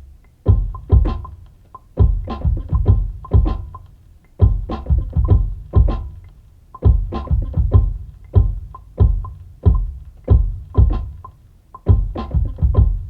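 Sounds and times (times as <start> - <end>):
percussion: 0.4 - 13.0.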